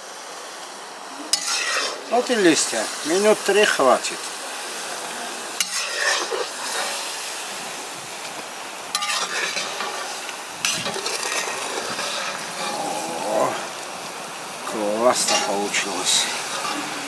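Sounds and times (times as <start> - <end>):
boiling water hissing: 0.0 - 17.0.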